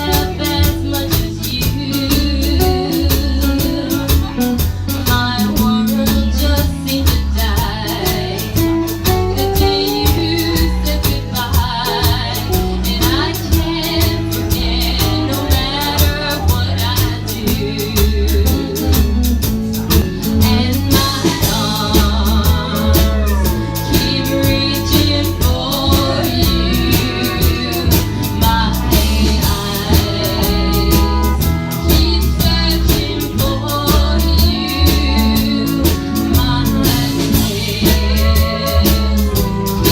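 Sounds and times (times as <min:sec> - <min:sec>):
band playing: 0:00.0 - 0:39.9
woman singing: 0:00.0 - 0:39.9.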